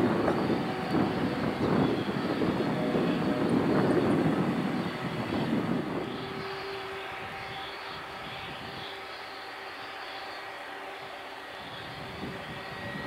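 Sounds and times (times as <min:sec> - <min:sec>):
jet engines rumbling: 0:00.0 - 0:13.0
taxiing engine whine: 0:00.0 - 0:13.0.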